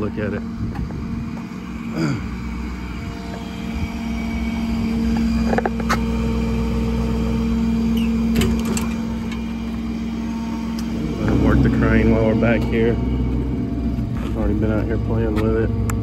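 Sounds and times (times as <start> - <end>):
diesel engine idling: 0.0 - 16.0
steady hum: 0.0 - 16.0.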